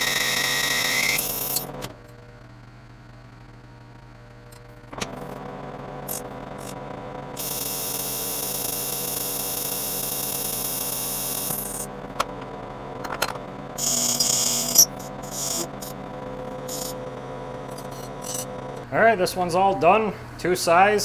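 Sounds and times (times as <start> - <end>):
lathe running with steady hum: 0.0 - 18.9.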